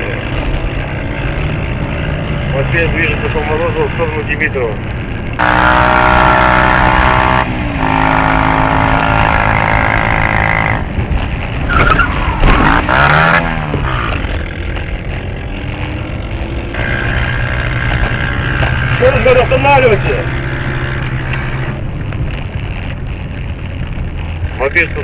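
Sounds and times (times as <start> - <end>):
engine revving at high revs: 0.0 - 21.8.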